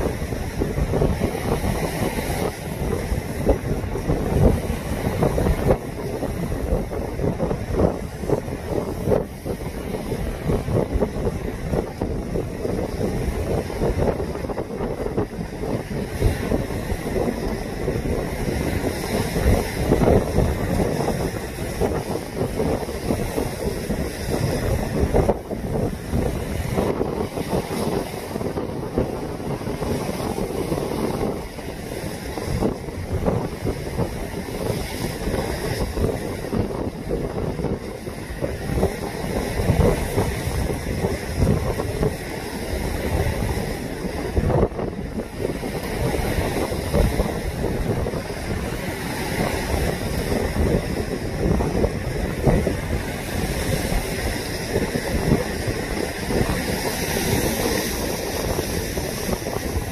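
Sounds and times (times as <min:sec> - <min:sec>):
waves breaking against rocks: 0:00.0 - 0:59.9
wind buffeting microphone: 0:00.0 - 0:59.9.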